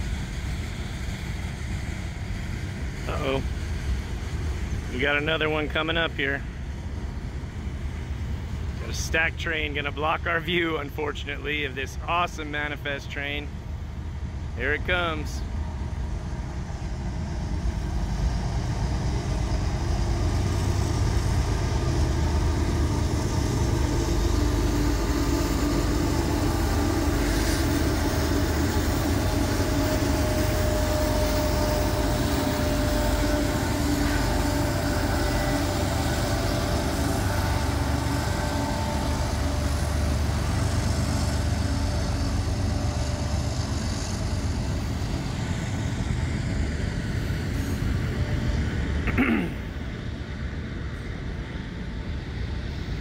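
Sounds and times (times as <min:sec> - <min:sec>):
diesel locomotive engines: 0:00.0 - 0:53.0
freight cars rumbling on rails: 0:00.0 - 0:53.0.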